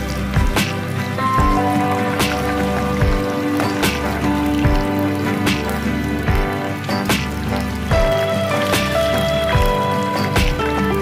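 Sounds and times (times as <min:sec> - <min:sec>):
background music with steady beat: 0:00.0 - 0:11.0
oil deep-frying crackle: 0:00.0 - 0:11.0.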